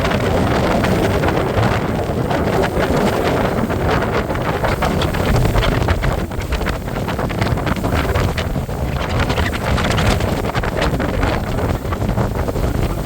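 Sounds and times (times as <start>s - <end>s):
boat running noise: 0.0s - 13.0s
wind buffeting microphone: 0.0s - 13.0s.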